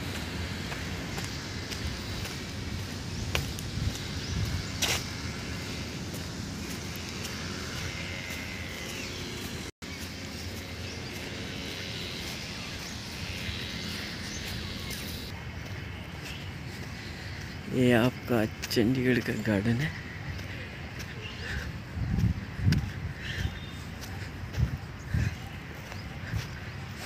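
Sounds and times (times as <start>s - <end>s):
distant road traffic rumble: 0.0s - 27.0s.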